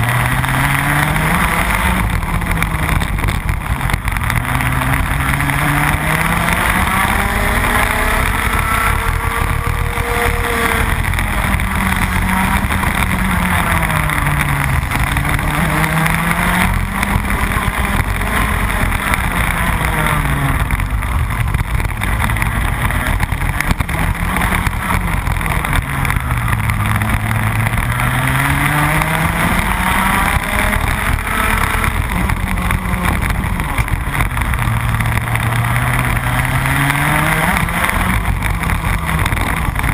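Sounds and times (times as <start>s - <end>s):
kart engine at race pace: 0.0s - 39.9s.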